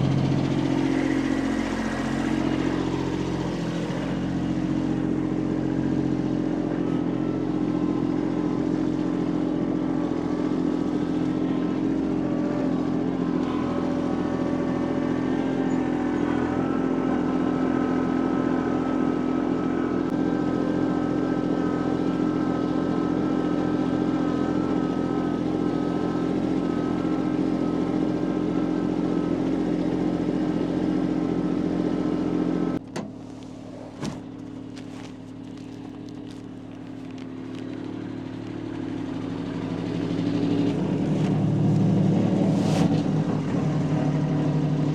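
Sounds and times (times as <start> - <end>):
motor running steadily: 0.0 - 44.9.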